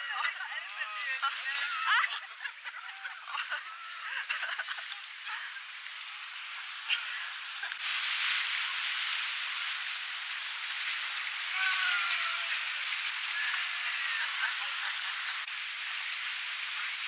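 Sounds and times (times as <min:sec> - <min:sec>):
rushing white water: 0:00.0 - 0:17.0.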